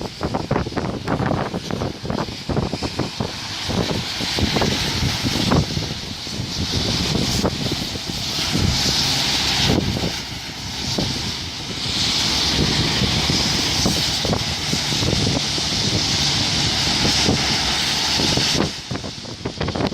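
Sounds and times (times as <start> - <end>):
heavy rain falling: 0.0 - 19.9
wind buffeting microphone: 0.0 - 19.9.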